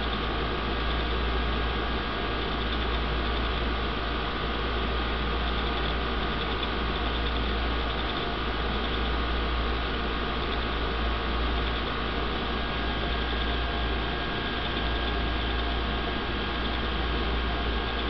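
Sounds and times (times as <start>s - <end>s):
aquarium equipment hum and hiss: 0.0s - 18.0s.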